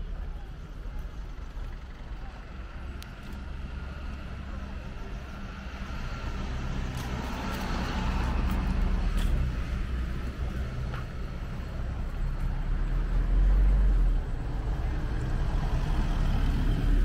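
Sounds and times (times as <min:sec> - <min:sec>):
vehicle passing: 0:03.3 - 0:17.0.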